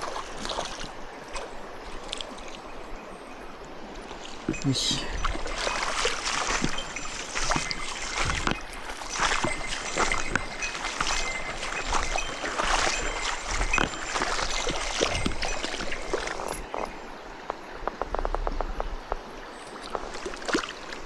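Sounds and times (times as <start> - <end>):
water splashing around legs: 0.0 - 2.7, 3.9 - 21.0
stream current rushing: 0.0 - 21.0.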